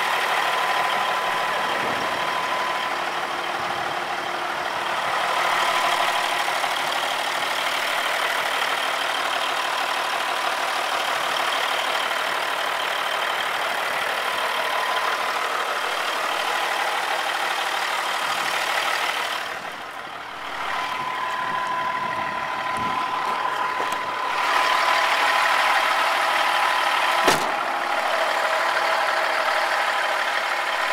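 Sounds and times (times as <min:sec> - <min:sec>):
diesel truck engine idling: 0:00.0 - 0:30.9.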